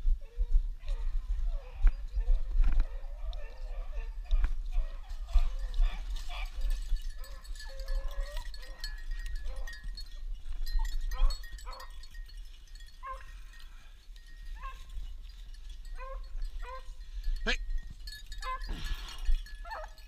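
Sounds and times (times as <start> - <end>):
dogs baying and yelping: 0.2 - 15.1, 15.8 - 20.0.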